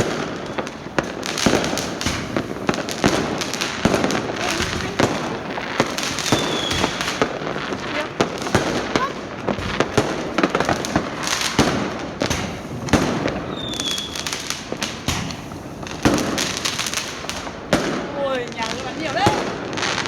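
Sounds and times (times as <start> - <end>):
high firework whistle: 0.0 - 16.2
fireworks bangs and crackles: 0.0 - 20.0.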